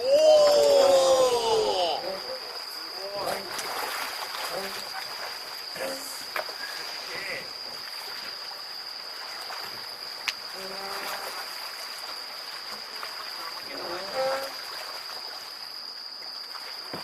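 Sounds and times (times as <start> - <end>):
insect chirring: 0.0 - 17.0
river water flowing: 0.0 - 17.0.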